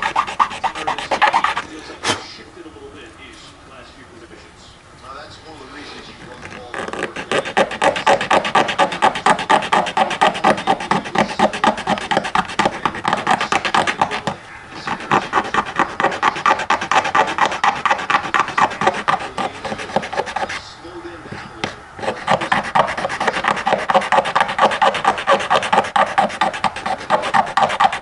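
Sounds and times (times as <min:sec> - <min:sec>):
hand file rasping: 0:00.0 - 0:01.9, 0:06.4 - 0:20.7, 0:21.3 - 0:28.0.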